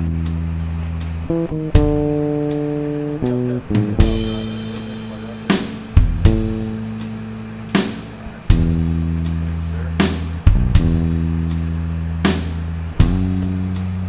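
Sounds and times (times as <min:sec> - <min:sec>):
guitar and bass music: 0:00.0 - 0:14.0
drum hits: 0:01.3 - 0:02.6, 0:03.3 - 0:14.0.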